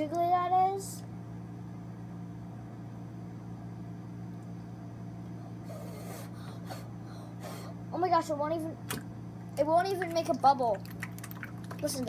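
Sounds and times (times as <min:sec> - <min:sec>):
steady low hum with hiss: 0:00.0 - 0:12.0.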